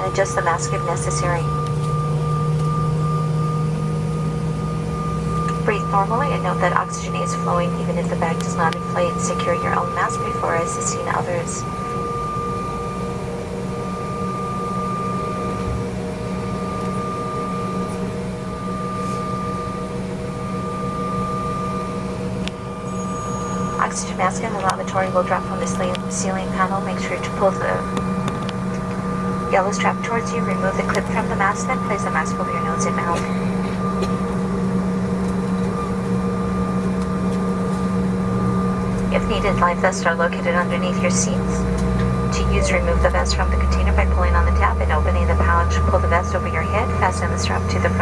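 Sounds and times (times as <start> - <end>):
high steady whine: 0.0 - 48.0
jet cabin low hum: 0.0 - 48.0.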